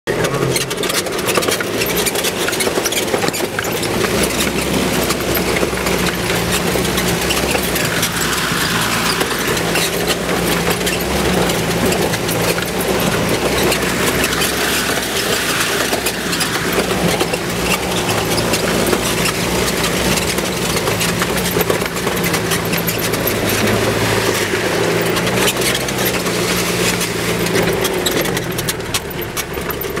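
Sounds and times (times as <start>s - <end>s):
vehicle engine running: 0.1s - 30.0s
water rushing and splashing: 0.4s - 30.0s.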